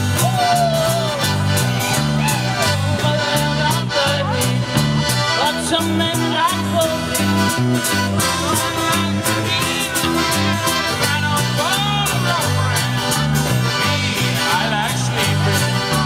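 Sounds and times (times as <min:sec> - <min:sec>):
accordion: 0:00.0 - 0:16.0
bass line: 0:00.0 - 0:16.0
live band playing: 0:00.0 - 0:16.0.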